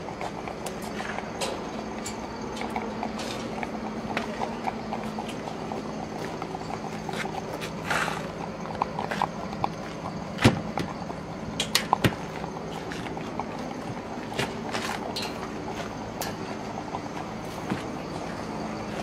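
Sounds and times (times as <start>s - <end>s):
steady low hum: 0.0s - 19.0s
turkeys shifting in metal cages: 0.0s - 19.0s.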